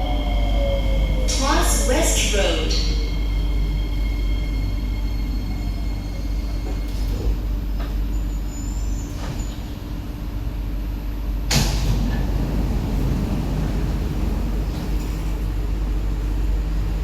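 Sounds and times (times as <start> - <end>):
train car rumbling: 0.0 - 17.0.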